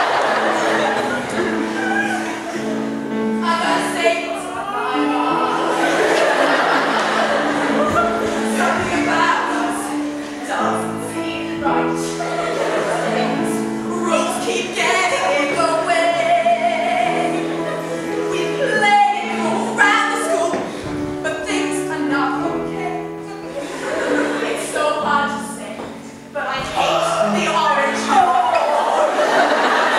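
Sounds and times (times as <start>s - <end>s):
choir singing: 0.0s - 20.8s, 23.5s - 29.9s.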